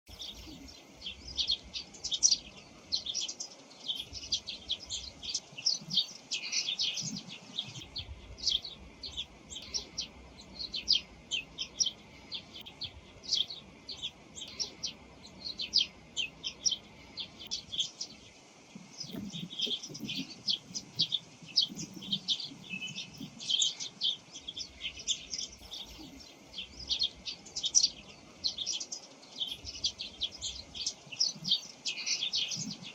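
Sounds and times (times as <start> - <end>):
sparrows chirping: 0.1 - 32.9.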